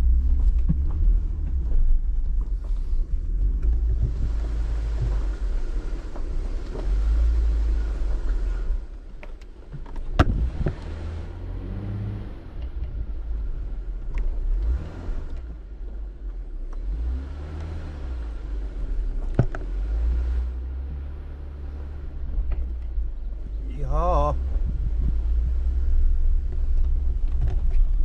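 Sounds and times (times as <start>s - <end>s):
off-road vehicle engine rumbling: 0.0s - 28.0s.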